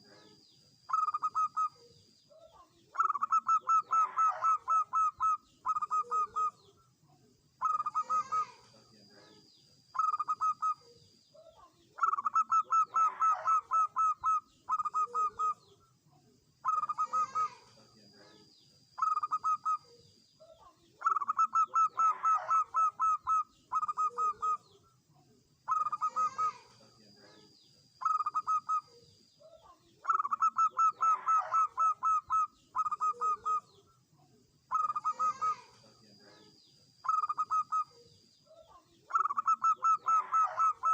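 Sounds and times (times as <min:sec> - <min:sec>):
dove cooing: 0:00.0 - 0:06.8, 0:07.6 - 0:09.4, 0:10.0 - 0:15.8, 0:16.6 - 0:24.8, 0:25.7 - 0:33.9, 0:34.7 - 0:40.9.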